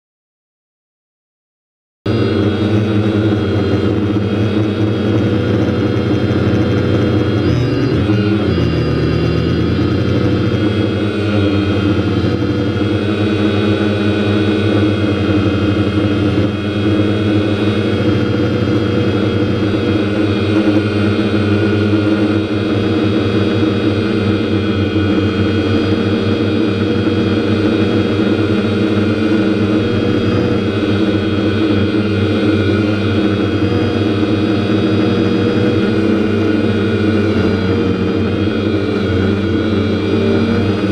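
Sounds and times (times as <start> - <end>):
drone motors and propellers droning: 2.1 - 40.9.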